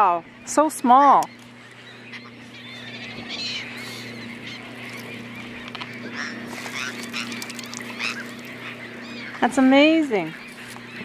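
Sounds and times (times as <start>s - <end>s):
gulls crying: 0.0s - 11.0s
low steady hum: 0.0s - 11.0s.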